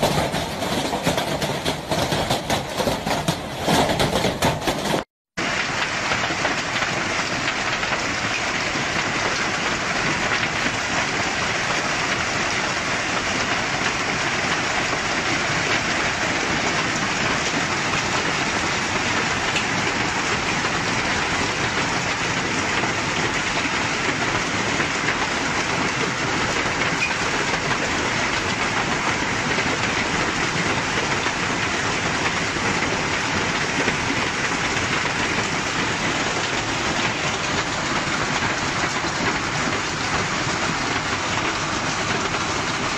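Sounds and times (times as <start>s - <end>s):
hail clattering: 0.0s - 42.9s.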